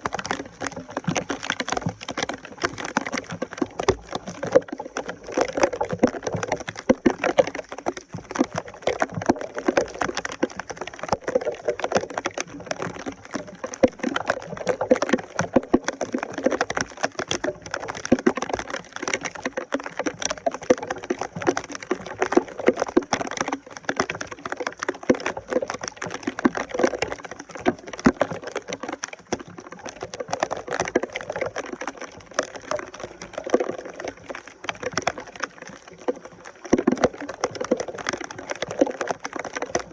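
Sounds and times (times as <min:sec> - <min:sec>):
small clicks and crackles: 0:00.0 - 0:39.9
water splashing and gurgling: 0:00.0 - 0:39.9.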